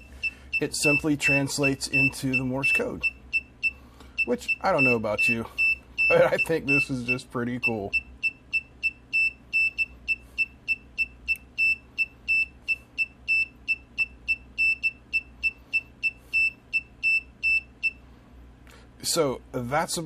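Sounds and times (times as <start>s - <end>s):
buzzer beeping morse code: 0.0s - 18.0s.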